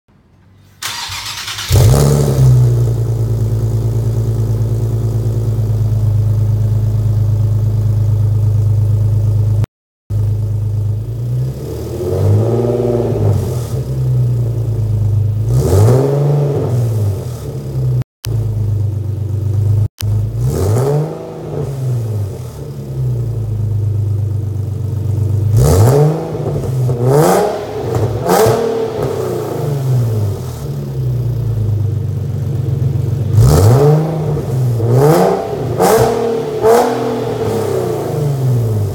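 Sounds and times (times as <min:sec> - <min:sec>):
car engine idling and revving: 0:00.8 - 0:38.9.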